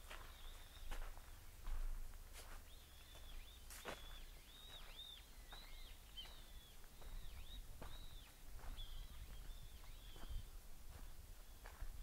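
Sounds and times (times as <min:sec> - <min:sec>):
faint footsteps on a path: 0:00.0 - 0:12.0.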